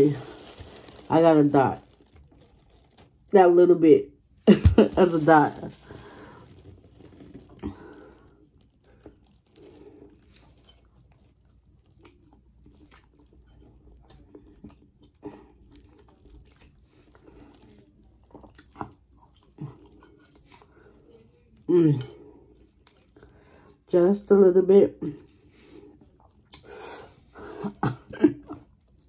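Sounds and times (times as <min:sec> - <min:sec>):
person chewing: 0:01.8 - 0:03.3, 0:05.8 - 0:23.9, 0:25.1 - 0:29.0.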